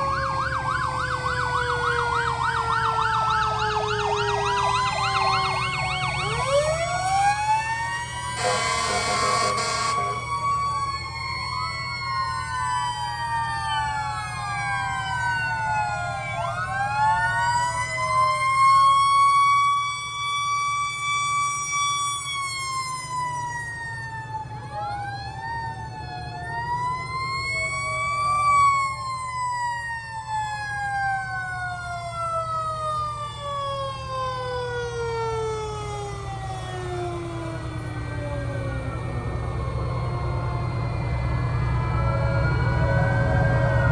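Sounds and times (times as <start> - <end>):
fire truck sirens wailing: 0.0 - 43.9
truck engines running low: 0.0 - 43.9.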